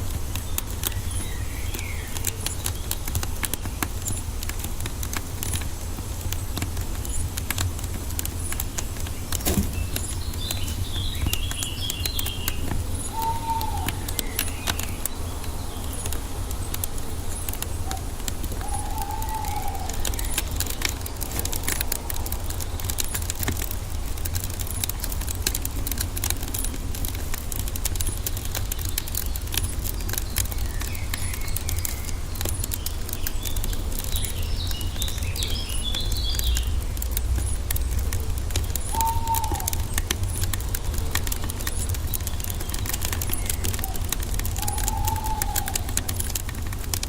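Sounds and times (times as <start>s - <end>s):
birds chirping faintly: 0.0s - 47.0s
wood fire crackling: 0.0s - 47.0s.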